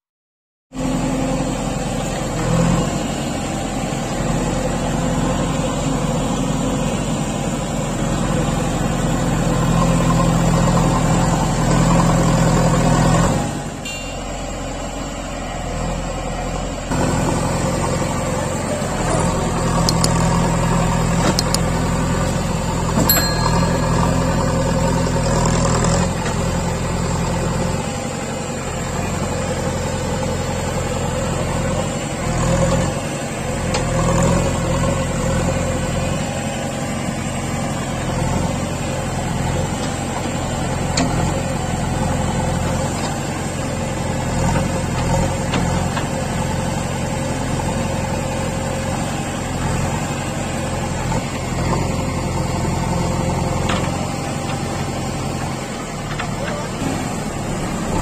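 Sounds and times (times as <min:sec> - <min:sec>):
diesel engine running: 0:00.7 - 0:58.0.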